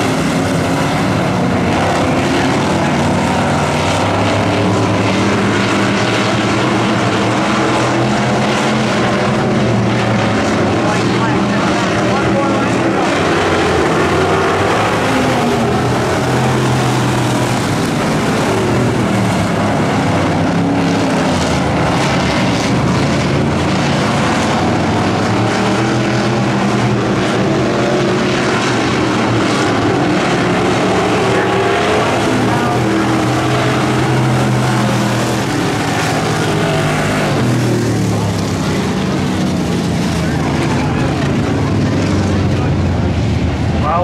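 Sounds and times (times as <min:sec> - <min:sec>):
race car engines running hard: 0:00.0 - 0:44.0.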